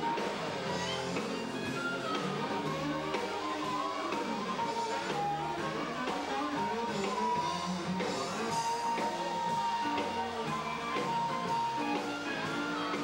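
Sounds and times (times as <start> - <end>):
blues band playing: 0.0 - 13.0.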